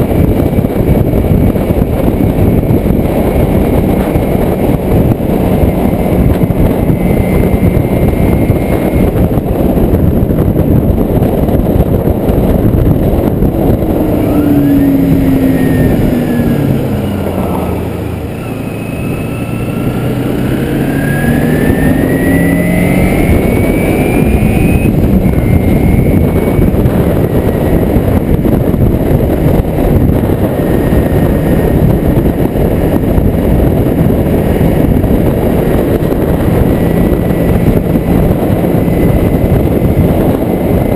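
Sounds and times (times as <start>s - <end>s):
motorcycle engine: 0.0s - 40.9s
wind noise on microphone: 0.0s - 40.9s.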